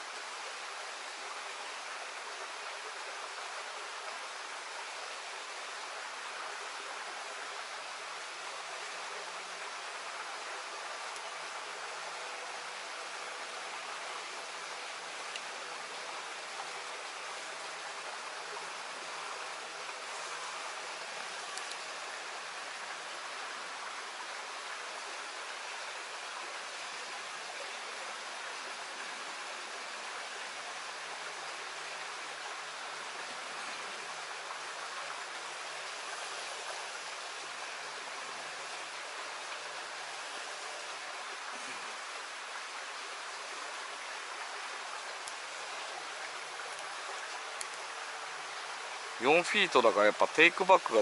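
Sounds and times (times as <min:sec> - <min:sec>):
stream flowing: 0:00.0 - 0:51.0.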